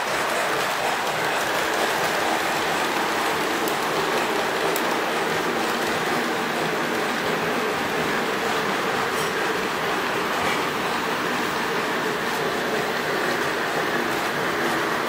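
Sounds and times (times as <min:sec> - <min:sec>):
model train whirring on rails: 0:00.0 - 0:15.0.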